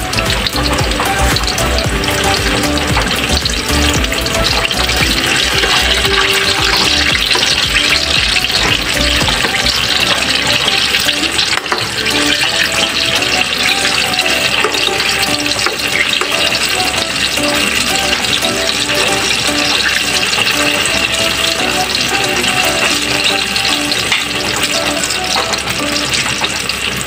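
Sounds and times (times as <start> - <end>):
background music: 0.0 - 27.0
eggplants sizzling in bubbling oil: 0.0 - 27.0.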